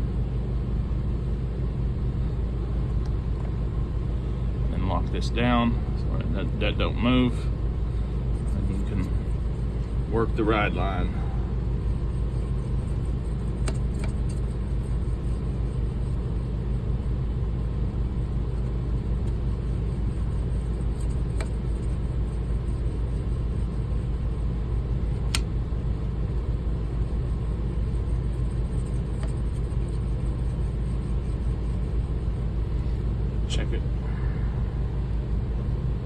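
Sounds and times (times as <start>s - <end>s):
sharpening machine rumbling: 3.6s - 35.3s.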